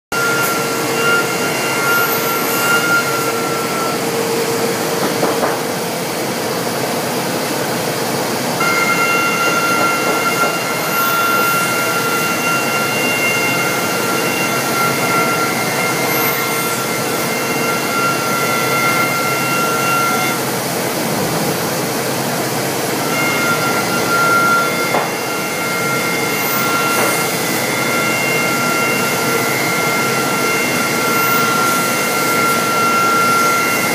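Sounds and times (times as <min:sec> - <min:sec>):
high machine whine: 0:00.1 - 0:33.9
wood routing machine noise: 0:00.1 - 0:33.9.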